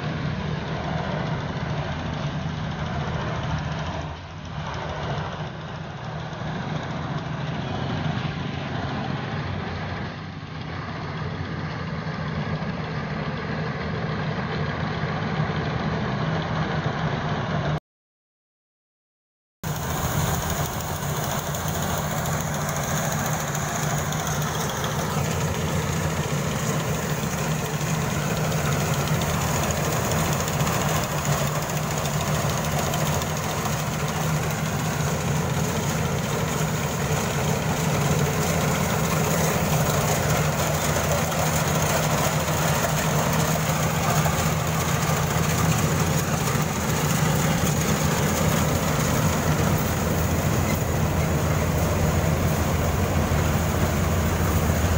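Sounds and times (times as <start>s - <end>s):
combine harvester running: 0.0s - 17.8s, 19.6s - 54.9s.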